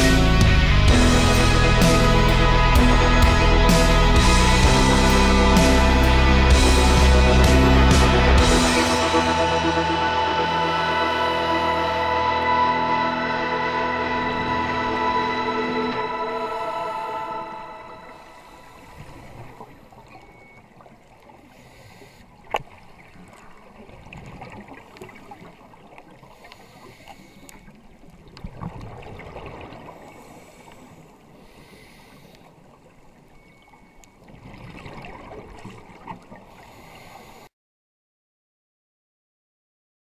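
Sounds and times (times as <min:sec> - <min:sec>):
regulator bubbles rumbling underwater: 0:00.9 - 0:31.8, 0:32.5 - 0:36.9.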